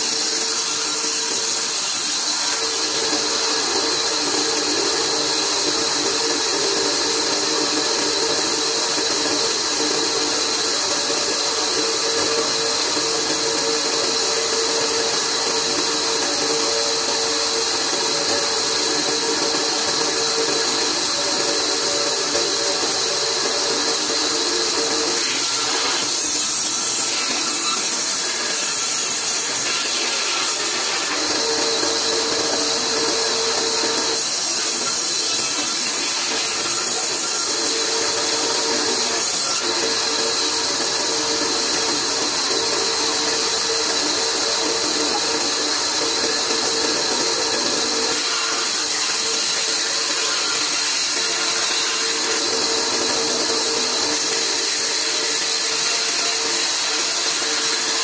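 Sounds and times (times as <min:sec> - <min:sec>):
bandsaw cutting wood: 0:00.0 - 0:58.0.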